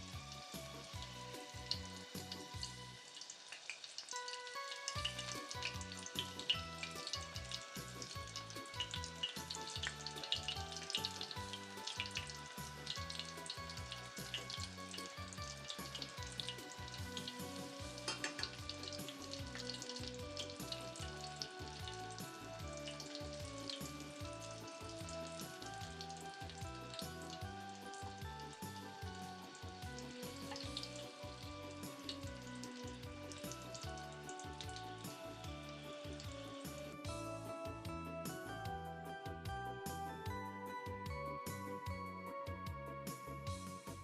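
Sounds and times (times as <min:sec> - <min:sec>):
dough sizzling in hot oil: 0:00.0 - 0:38.5.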